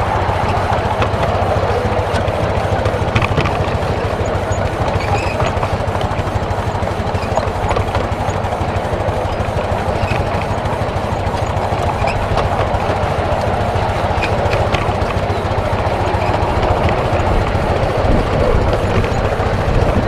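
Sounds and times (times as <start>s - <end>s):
miniature steam locomotive running: 0.0s - 20.0s
wheels clicking on rails: 0.0s - 20.0s.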